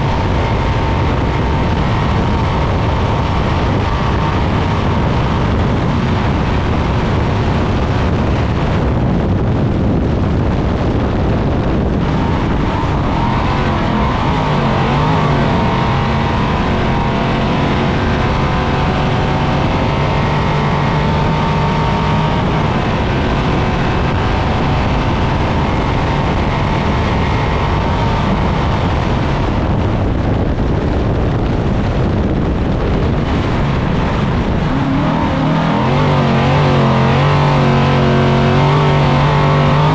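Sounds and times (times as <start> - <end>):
truck engine revving: 0.0 - 9.0, 10.2 - 30.2, 32.0 - 39.9
wind rushing: 0.0 - 39.9.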